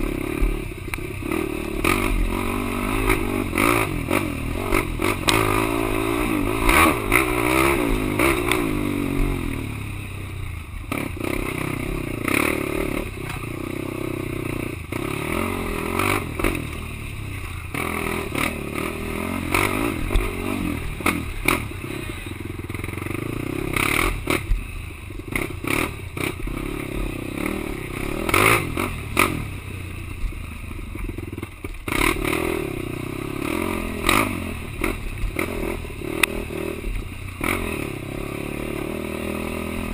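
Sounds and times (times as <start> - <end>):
quad engine revving: 0.0 - 10.1, 10.8 - 24.6, 25.2 - 29.7, 31.1 - 39.9.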